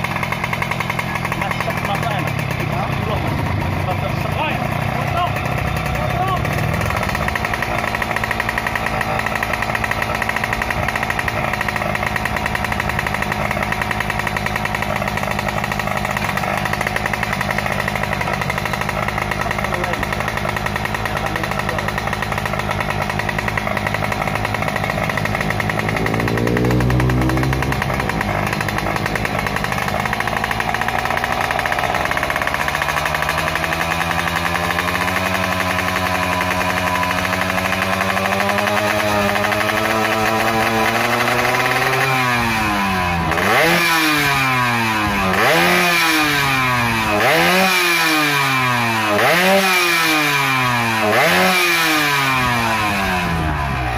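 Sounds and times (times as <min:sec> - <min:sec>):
two-stroke engine running: 0:00.0 - 0:53.9.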